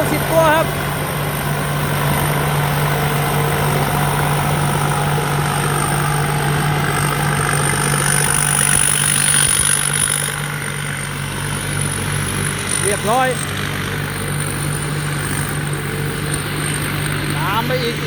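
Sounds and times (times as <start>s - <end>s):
combine harvester engine running: 0.0s - 18.0s
high whine: 0.0s - 18.0s.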